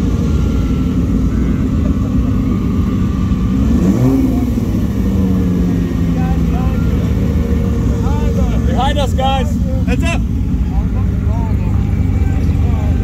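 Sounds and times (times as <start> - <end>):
car engine revving up: 0.0 - 13.0
cars driving past slowly: 0.0 - 13.0.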